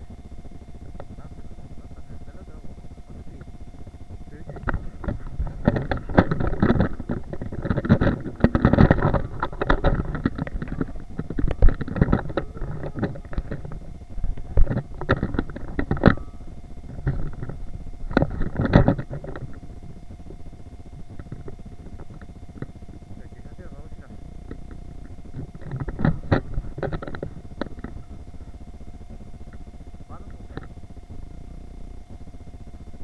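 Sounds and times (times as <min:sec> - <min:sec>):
camera handling rumble: 0:00.5 - 0:33.0.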